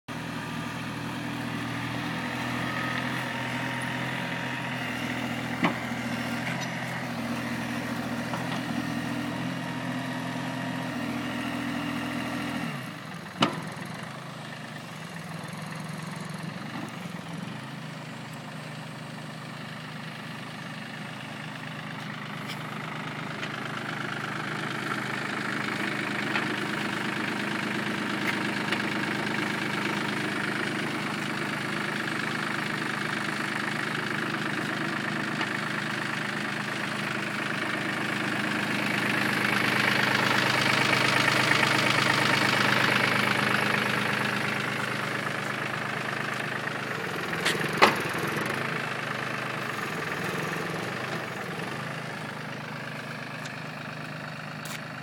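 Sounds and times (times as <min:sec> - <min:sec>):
tractor engine running: 0:00.1 - 0:55.0.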